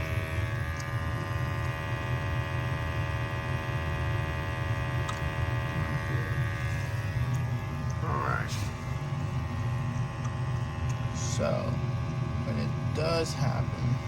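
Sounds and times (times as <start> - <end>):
gas furnace humming: 0.0 - 14.0
steady whining tones: 0.0 - 14.0.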